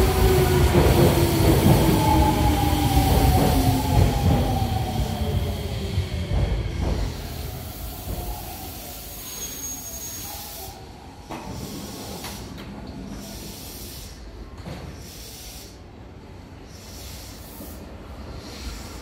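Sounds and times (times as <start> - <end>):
distant train rumble and hiss: 0.0 - 19.0.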